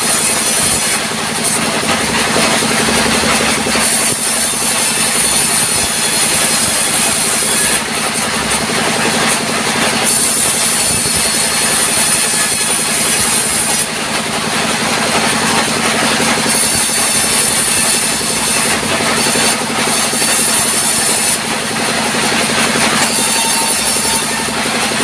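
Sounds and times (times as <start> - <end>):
band saw humming: 0.0 - 25.0
saw blade rasping through timber: 0.0 - 25.0.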